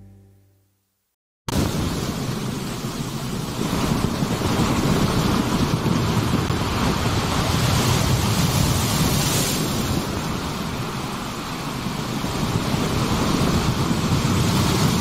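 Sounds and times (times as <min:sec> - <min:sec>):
ocean waves breaking: 0:01.5 - 0:15.0.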